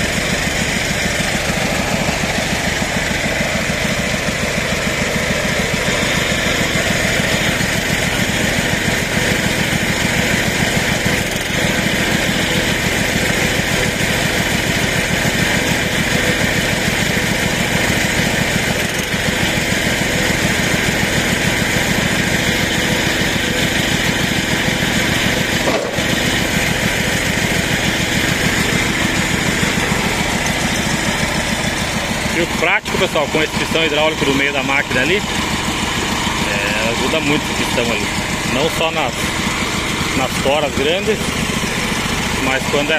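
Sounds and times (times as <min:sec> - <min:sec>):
engine idling with fast chug: 0:00.0 - 0:42.9.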